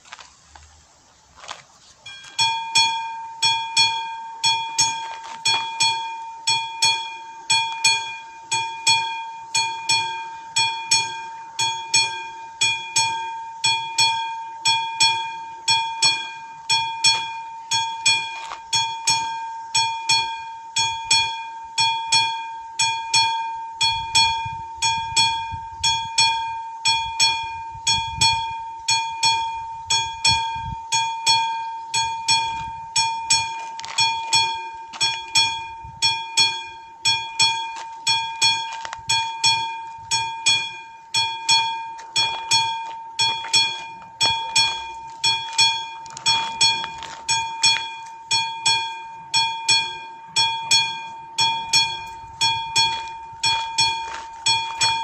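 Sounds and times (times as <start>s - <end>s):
level crossing bell ringing: 2.1s - 55.0s.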